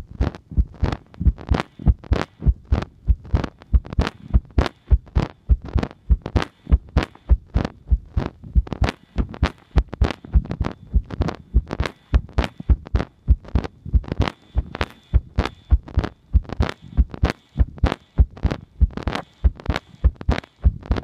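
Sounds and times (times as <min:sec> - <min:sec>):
fast heartbeat thumps: 0:00.0 - 0:21.0.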